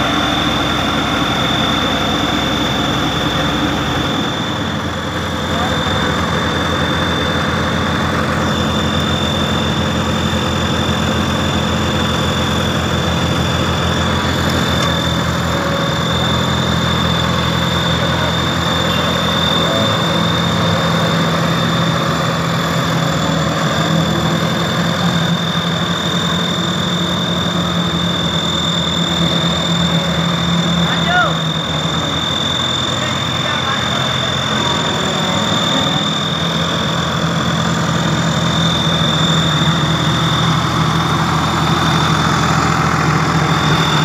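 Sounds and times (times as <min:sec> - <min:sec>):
high-pitched whine: 0:00.0 - 0:44.0
road roller diesel engine: 0:00.0 - 0:44.0.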